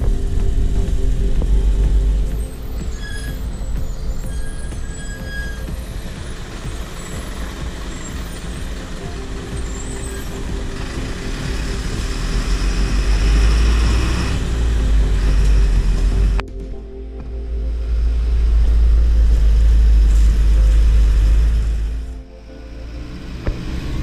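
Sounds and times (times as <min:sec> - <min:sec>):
tyres rumbling over bridge: 0:00.0 - 0:16.4, 0:17.7 - 0:24.0
truck engine running: 0:00.0 - 0:16.7, 0:17.6 - 0:24.0.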